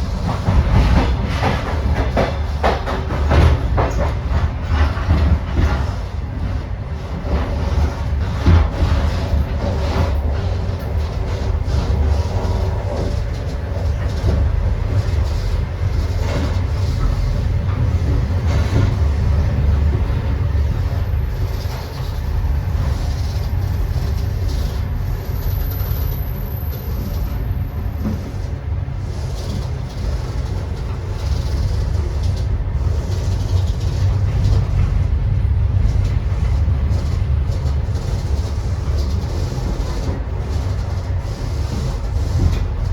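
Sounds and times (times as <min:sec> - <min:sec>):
train rumbling on rails: 0:00.0 - 0:42.9.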